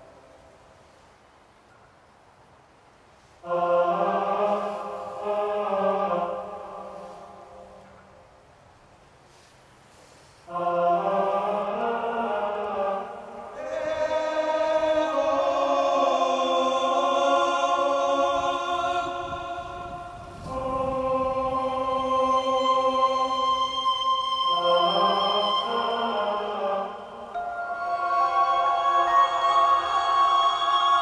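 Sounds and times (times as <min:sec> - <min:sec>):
choir-like sustained chords: 0:00.0 - 0:00.5, 0:03.4 - 0:08.2, 0:10.5 - 0:31.0.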